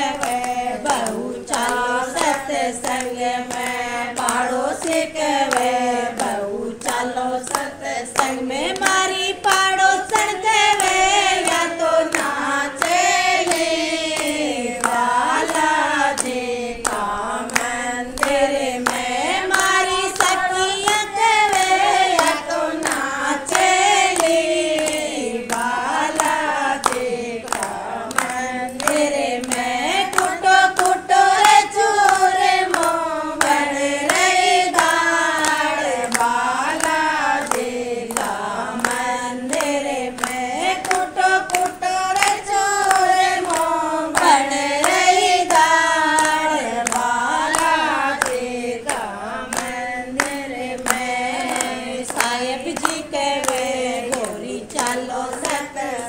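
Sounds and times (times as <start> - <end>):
people singing together: 0.0 - 56.0
rhythmic hand clapping: 0.0 - 56.0.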